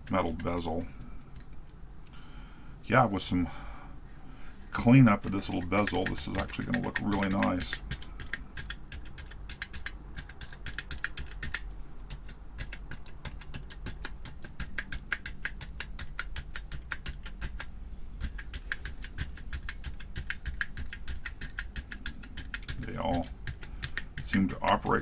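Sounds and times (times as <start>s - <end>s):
calculator keys clicking: 0.0s - 1.8s, 4.8s - 25.0s.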